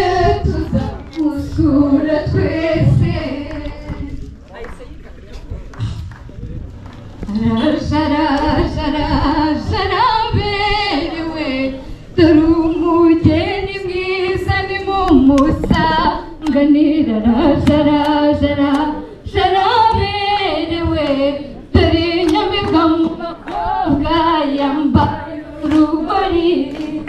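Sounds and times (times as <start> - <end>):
women singing unaccompanied: 0.0 - 4.3, 7.3 - 27.0.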